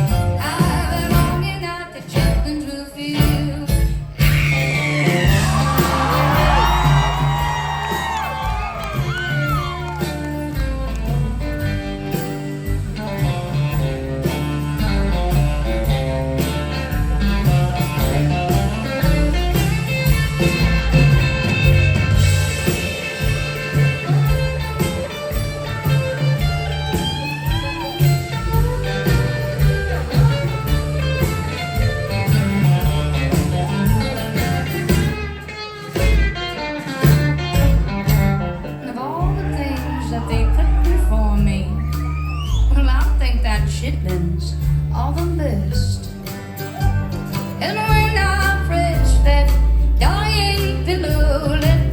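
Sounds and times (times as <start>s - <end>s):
guitar: 0.0s - 51.9s
live band playing country music: 0.0s - 51.9s.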